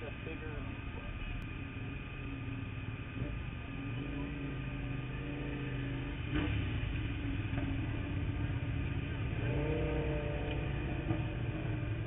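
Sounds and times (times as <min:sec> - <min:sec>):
motorcycle engine running: 0:01.4 - 0:12.0.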